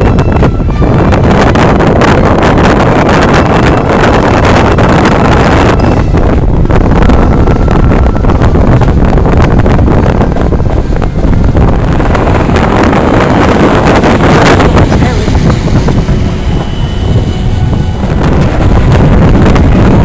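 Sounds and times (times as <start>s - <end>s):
train rumbling along tracks: 0.0s - 20.0s
wind buffeting microphone: 0.0s - 20.0s.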